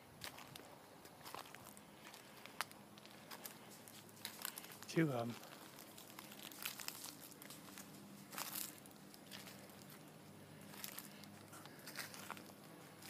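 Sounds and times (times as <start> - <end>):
dry leaves and twigs crunching: 0.2 - 13.0.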